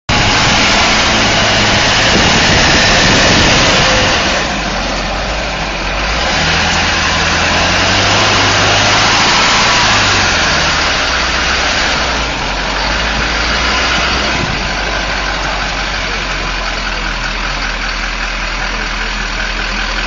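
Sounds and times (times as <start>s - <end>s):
loud rushing noise: 0.1s - 17.1s
diesel engine idling: 0.1s - 20.0s.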